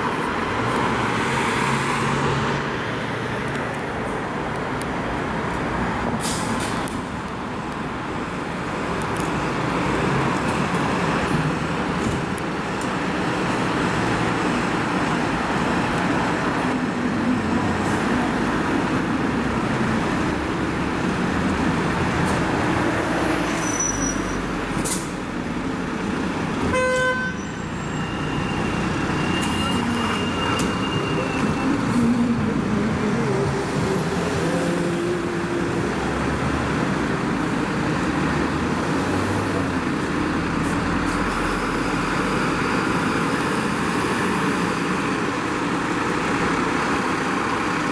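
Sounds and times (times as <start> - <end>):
diesel engines rumbling: 0.0 - 47.9
traffic noise: 0.0 - 47.9.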